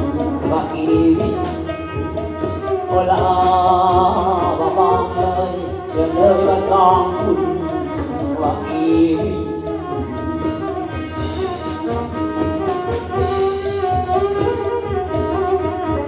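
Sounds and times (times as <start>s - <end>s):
person singing into a microphone: 0.0s - 16.0s
steady percussion beat: 0.0s - 16.0s.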